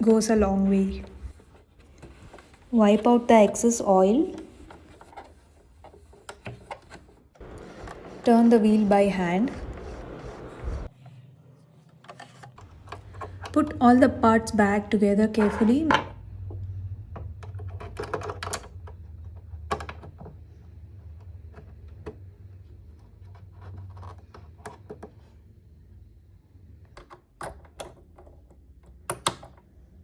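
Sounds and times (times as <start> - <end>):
low steady hum: 0.0 - 24.3.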